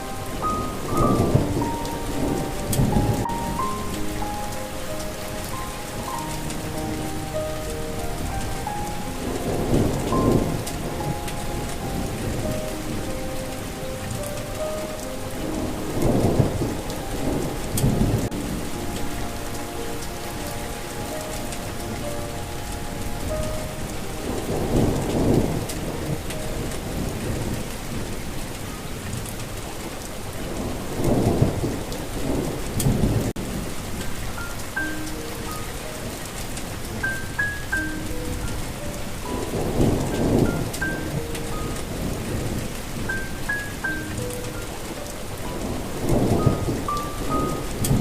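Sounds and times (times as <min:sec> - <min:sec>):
soft held melodic notes: 0:00.0 - 0:48.0
steady rain: 0:00.0 - 0:48.0
thunder rolling: 0:00.0 - 0:48.0.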